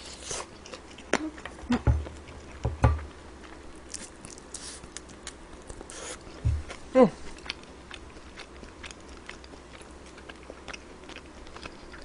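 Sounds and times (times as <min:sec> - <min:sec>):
chewing mouth noises: 0:00.1 - 0:02.6, 0:03.4 - 0:12.0.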